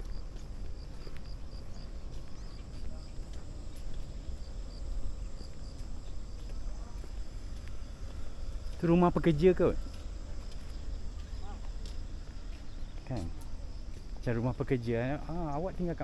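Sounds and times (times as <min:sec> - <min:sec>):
faint footsteps: 0:00.0 - 0:16.0
insect chirping: 0:00.0 - 0:16.0.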